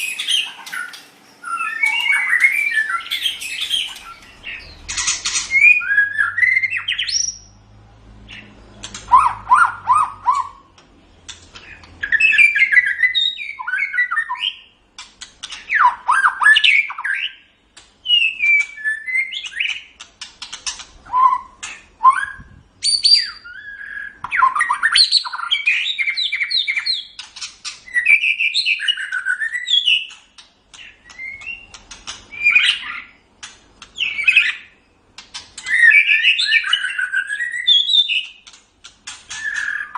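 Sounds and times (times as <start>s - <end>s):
songbird whistling and chattering: 0.0s - 7.5s, 8.3s - 10.7s, 11.6s - 14.7s, 15.4s - 33.2s, 34.0s - 34.8s, 35.6s - 38.5s, 39.3s - 39.9s.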